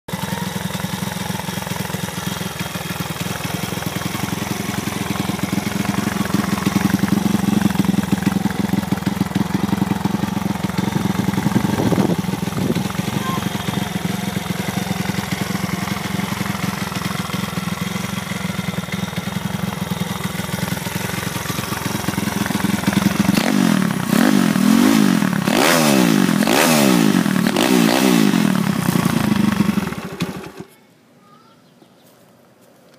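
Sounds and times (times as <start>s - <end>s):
mini bike engine revving: 0.1s - 30.8s.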